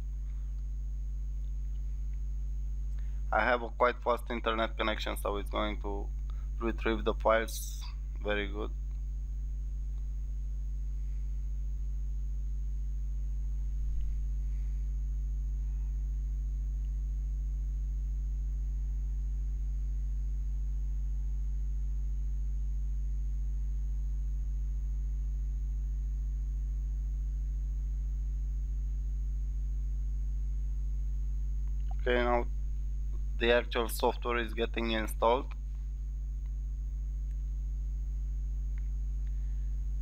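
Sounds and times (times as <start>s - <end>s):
faint high whine: 0.0s - 40.0s
steady low hum: 0.0s - 40.0s.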